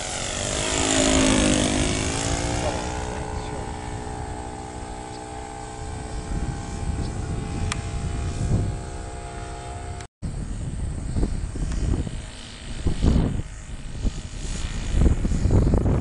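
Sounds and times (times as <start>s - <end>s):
model airplane engine droning: 0.0s - 16.0s.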